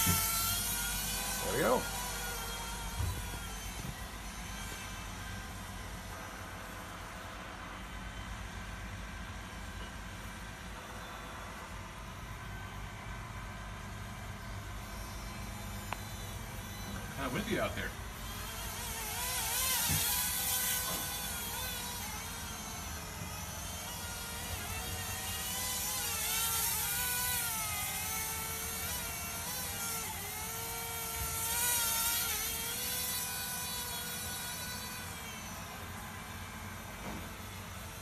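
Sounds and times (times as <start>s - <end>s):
quadcopter motors whining: 0.0s - 38.0s.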